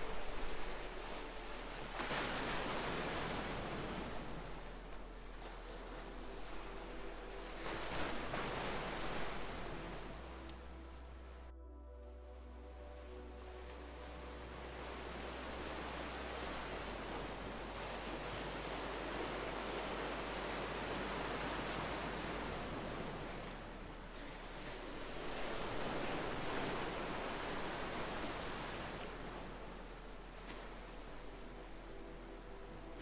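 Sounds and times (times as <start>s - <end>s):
ocean waves washing in: 0.0s - 11.5s, 13.0s - 33.0s.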